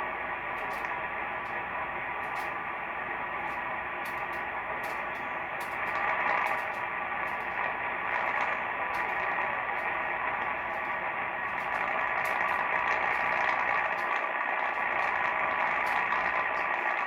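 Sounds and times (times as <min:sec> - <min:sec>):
radio static hissing: 0:00.0 - 0:17.0
static crackles: 0:00.0 - 0:17.0.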